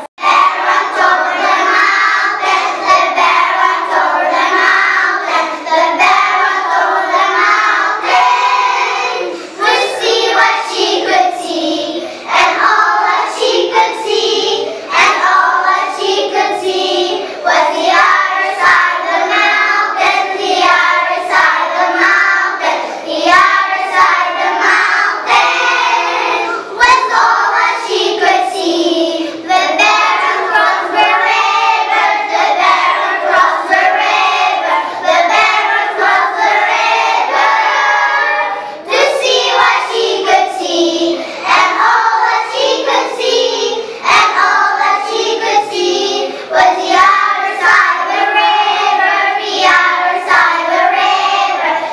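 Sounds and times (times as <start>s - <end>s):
children's choir singing: 0.0s - 51.9s.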